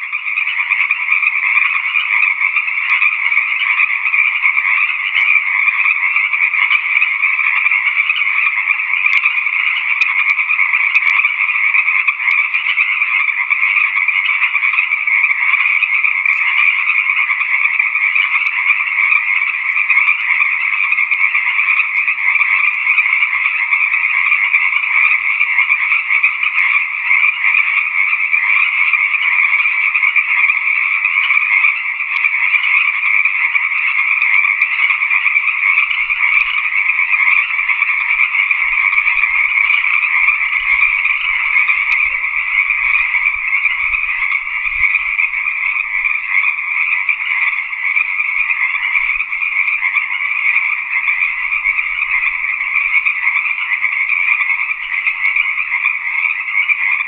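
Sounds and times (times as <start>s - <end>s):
tree frogs calling: 0.0s - 57.0s.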